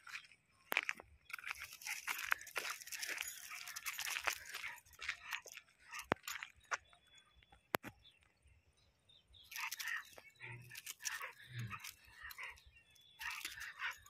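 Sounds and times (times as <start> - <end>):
footsteps crunching on paved path: 0.0 - 8.4, 9.4 - 14.0.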